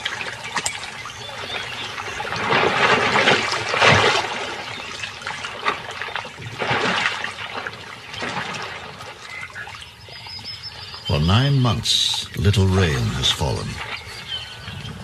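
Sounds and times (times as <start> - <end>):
muddy water splashing and sloshing: 0.0 - 15.0.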